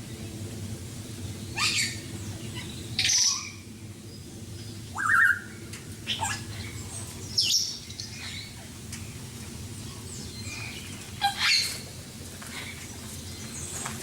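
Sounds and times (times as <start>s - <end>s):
steady low hum: 0.0s - 14.0s
birds chirping and squawking: 1.3s - 14.0s.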